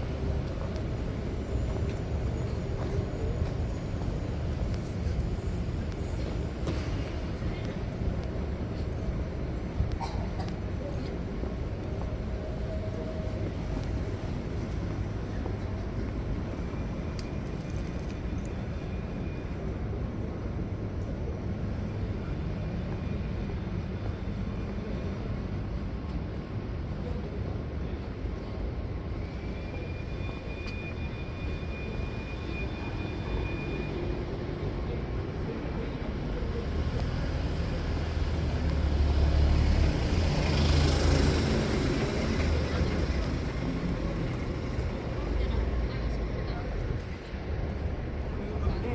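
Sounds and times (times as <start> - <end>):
traffic rumble: 0.0 - 48.9.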